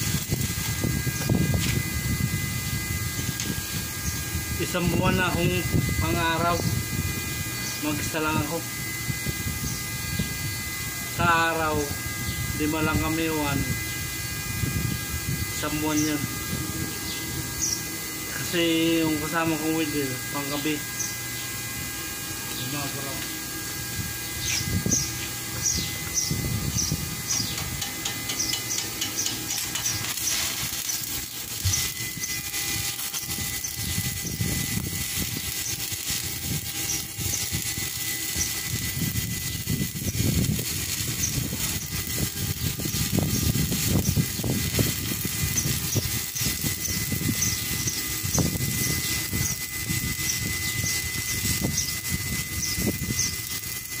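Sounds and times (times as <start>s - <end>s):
welding arc crackling: 0.0s - 54.0s.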